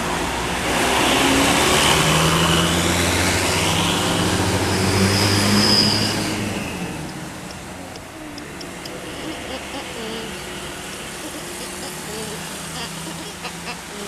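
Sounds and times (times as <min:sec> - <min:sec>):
bus driving past: 0:00.0 - 0:13.9.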